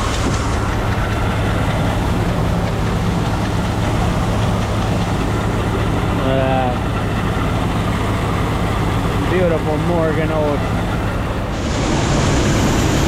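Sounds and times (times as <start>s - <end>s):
seed cleaning machinery humming: 0.0s - 13.0s.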